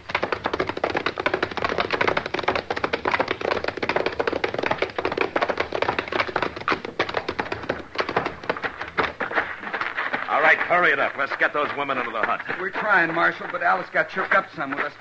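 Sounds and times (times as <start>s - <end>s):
horses galloping: 0.0s - 15.0s
wagon rattling: 0.0s - 15.0s.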